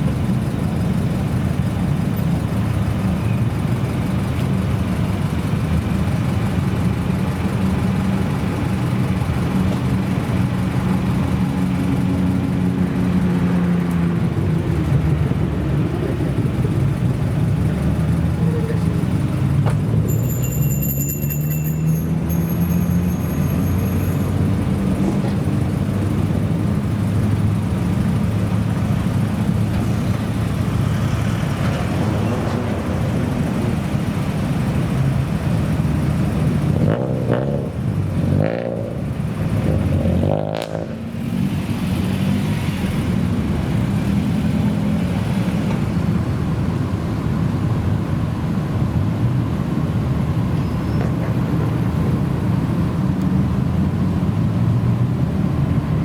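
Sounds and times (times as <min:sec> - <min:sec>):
car engine loud exhaust drone: 0:00.0 - 0:56.0.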